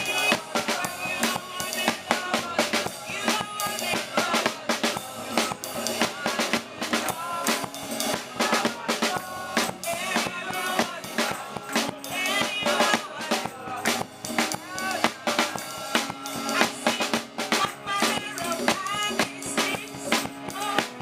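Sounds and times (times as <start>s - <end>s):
drum kit beat: 0.0s - 21.0s
gospel band music: 0.0s - 21.0s.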